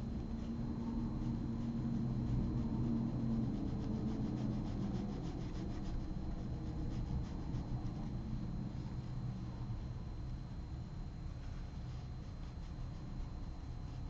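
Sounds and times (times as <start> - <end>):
brush rubbing on paper: 0.0 - 14.0
faint scratchy strokes: 0.0 - 14.0
steady low hum: 0.0 - 14.0.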